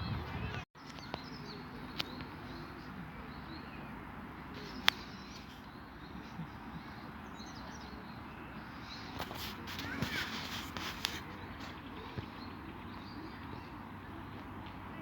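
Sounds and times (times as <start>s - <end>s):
soft bird chirps: 0.8s - 15.0s.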